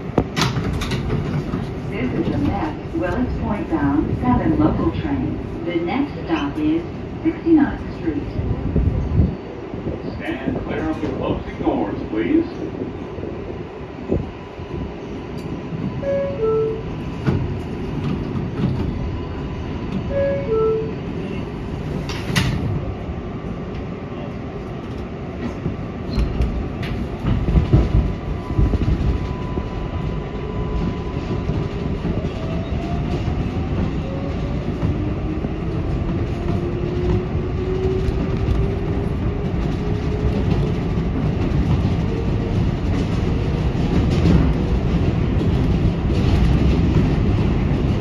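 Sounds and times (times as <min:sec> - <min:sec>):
train rumble: 0:00.0 - 0:48.0.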